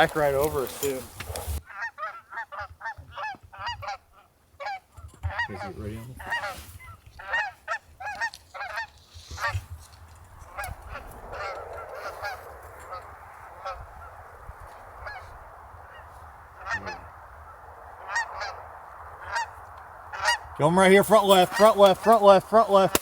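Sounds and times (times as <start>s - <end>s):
flock of geese honking: 0.0s - 23.0s.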